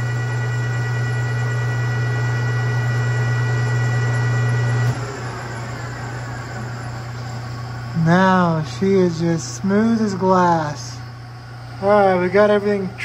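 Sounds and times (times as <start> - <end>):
metal lathe whining: 0.0 - 13.0.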